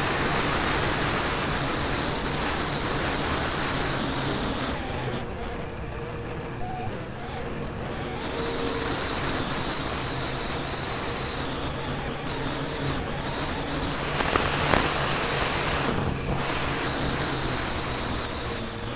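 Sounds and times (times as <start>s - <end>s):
snowmobile running: 0.0s - 18.9s.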